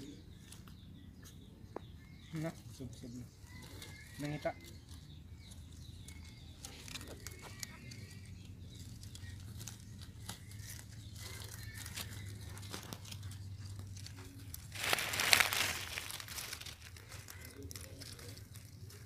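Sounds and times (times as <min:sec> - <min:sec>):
dry leaves crackling and rustling: 0:02.0 - 0:19.0
leaves crunch: 0:02.2 - 0:19.0.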